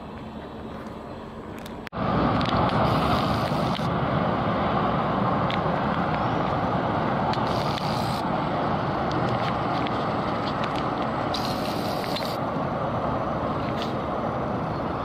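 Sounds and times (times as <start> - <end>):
traffic noise: 0.0 - 15.0
tram approaching: 0.0 - 15.0.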